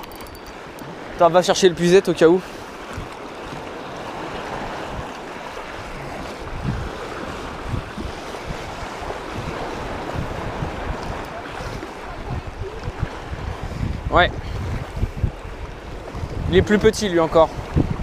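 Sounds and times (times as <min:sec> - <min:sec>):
sea waves washing onto shore: 0:00.0 - 0:18.0
wind noise on microphone: 0:02.8 - 0:18.0.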